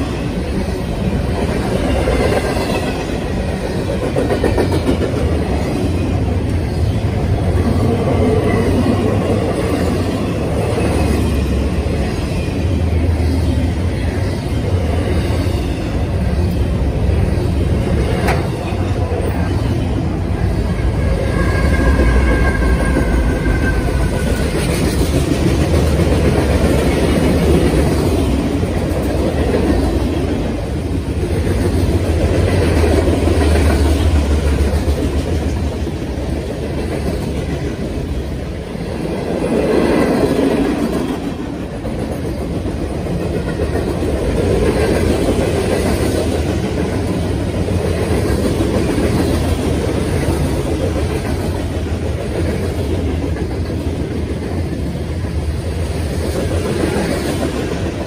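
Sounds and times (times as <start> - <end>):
clickety-clack of rail joints: 0.0 - 58.0
steel wheels rumbling on rail: 0.0 - 58.0.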